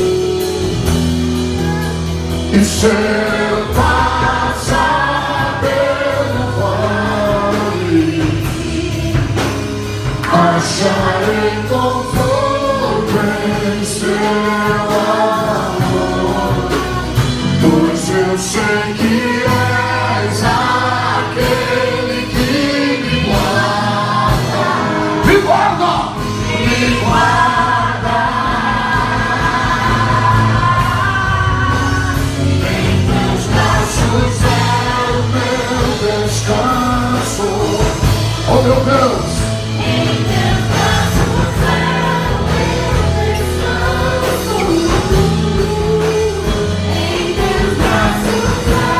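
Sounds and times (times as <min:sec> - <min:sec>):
band accompaniment: 0:00.0 - 0:48.9
women singing worship song: 0:00.0 - 0:48.9.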